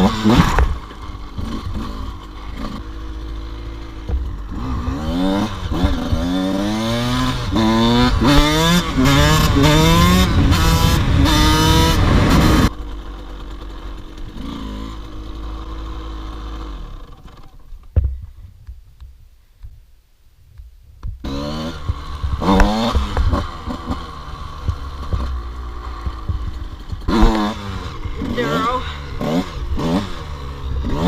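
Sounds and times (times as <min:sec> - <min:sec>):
dirt bike engine revving: 0:00.0 - 0:17.6, 0:21.2 - 0:31.0.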